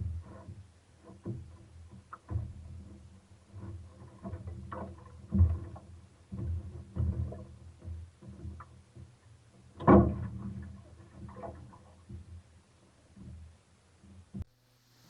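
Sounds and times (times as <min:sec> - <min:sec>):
knocks and thumps: 0:00.0 - 0:12.4.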